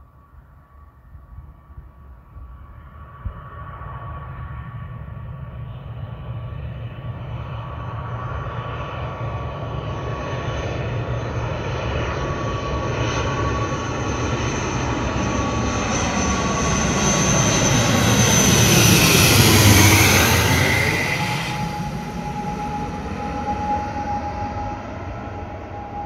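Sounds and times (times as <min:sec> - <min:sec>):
turboprop airliner approaching: 0:00.1 - 0:26.0.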